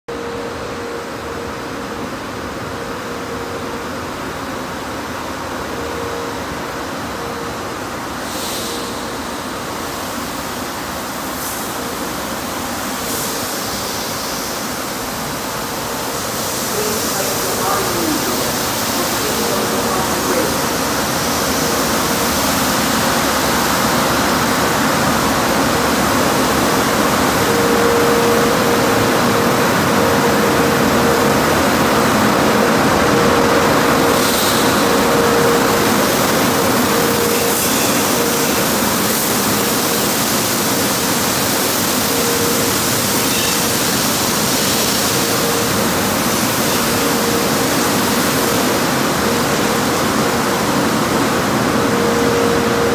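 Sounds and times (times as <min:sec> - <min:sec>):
machinery hum: 0:00.0 - 0:52.9.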